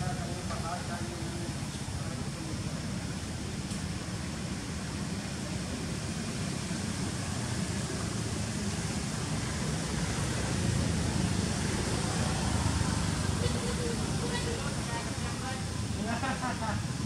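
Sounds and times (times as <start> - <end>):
hiss: 0.0 - 17.0.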